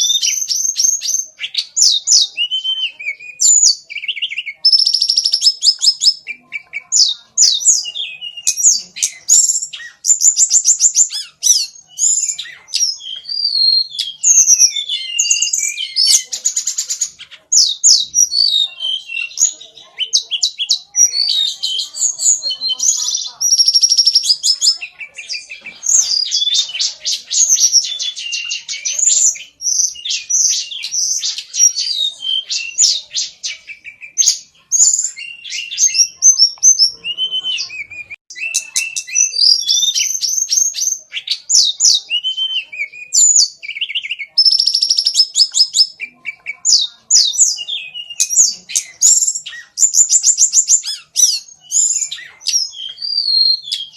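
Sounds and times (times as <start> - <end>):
cockatiel chattering and whistling: 0.0 - 53.9.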